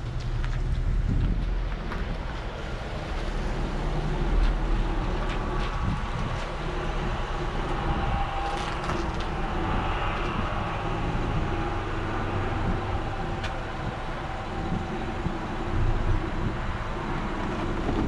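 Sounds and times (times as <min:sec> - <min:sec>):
car engine hum inside cabin: 0:00.0 - 0:18.0.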